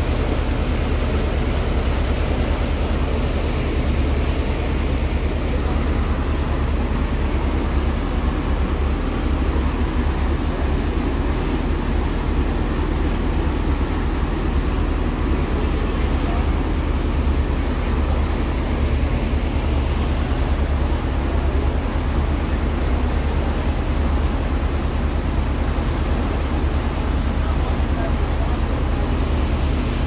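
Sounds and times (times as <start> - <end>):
boat engines humming: 0.0 - 30.0
rushing wake water: 0.0 - 30.0
wind: 0.0 - 30.0.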